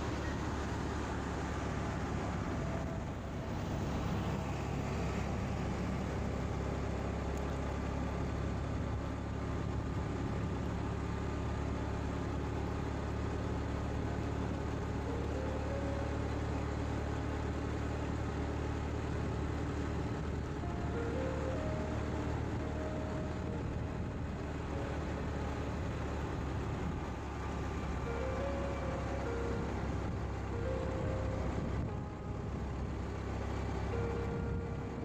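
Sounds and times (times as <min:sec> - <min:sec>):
motorcycle engine hum: 0:00.0 - 0:35.0
wind and road noise: 0:00.0 - 0:35.0.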